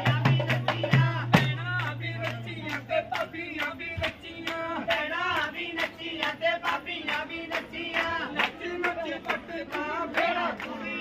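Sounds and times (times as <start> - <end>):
group singing a folk song: 0.0 - 11.0.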